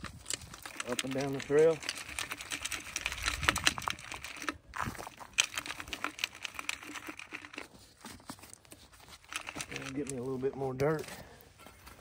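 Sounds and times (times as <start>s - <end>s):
dirt rattling in metal sifter: 0.0s - 11.1s.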